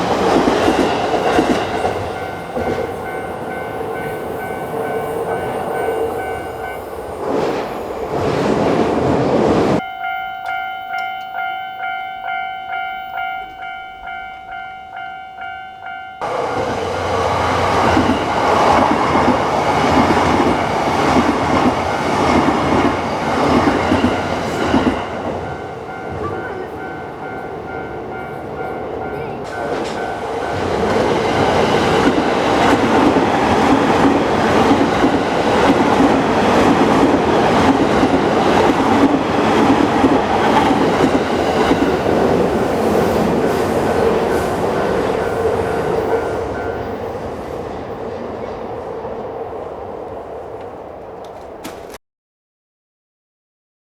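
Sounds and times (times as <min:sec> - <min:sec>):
railway crossing bell clanging: 0:00.0 - 0:08.0, 0:09.8 - 0:18.6, 0:20.5 - 0:47.2
electric train passing: 0:00.0 - 0:51.6.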